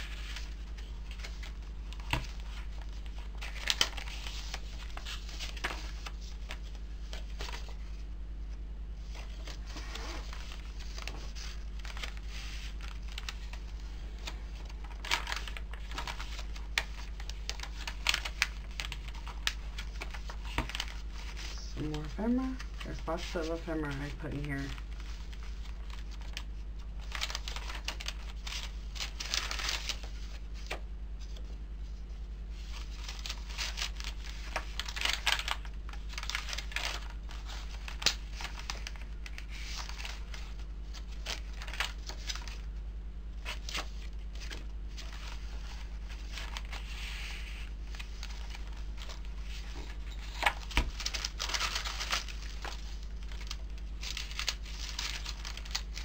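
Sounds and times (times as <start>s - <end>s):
paper rustling and crinkling: 0.0s - 56.0s
steady low hum: 0.0s - 56.0s.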